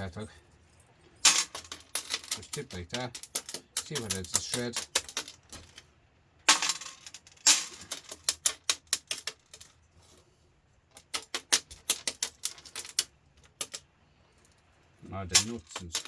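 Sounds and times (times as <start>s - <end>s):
metal nuts and screws clattering: 0.0s - 10.2s, 10.9s - 16.0s.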